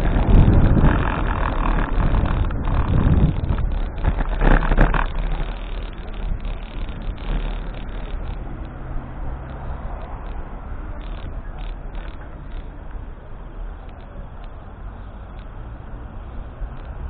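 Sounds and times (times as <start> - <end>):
passing road traffic: 0.0 - 17.0
wind on microphone: 0.0 - 17.0.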